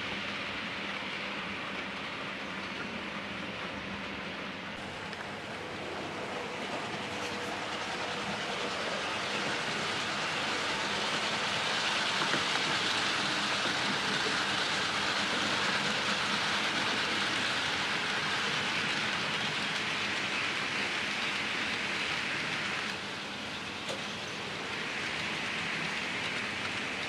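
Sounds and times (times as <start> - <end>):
model train whirring on track: 0.0 - 27.0.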